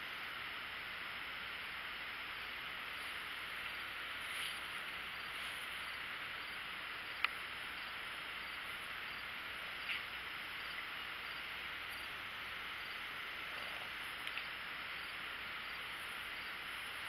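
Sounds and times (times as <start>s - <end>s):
insect drone: 0.0s - 17.0s
faint chirps: 2.8s - 17.0s.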